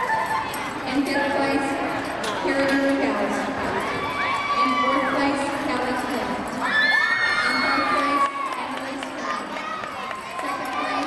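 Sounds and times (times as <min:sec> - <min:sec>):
crowd hubbub: 0:00.0 - 0:11.0.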